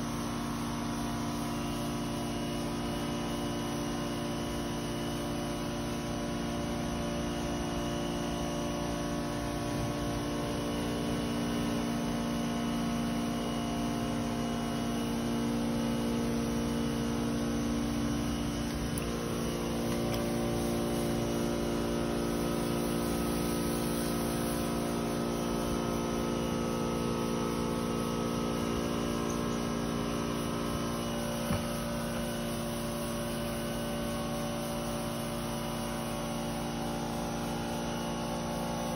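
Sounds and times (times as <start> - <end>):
motor electric hum: 0.0 - 38.9.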